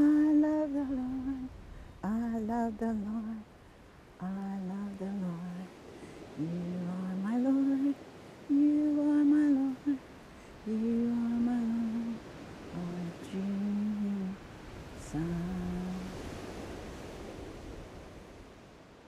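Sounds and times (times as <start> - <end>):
faint hiss: 0.0 - 19.0.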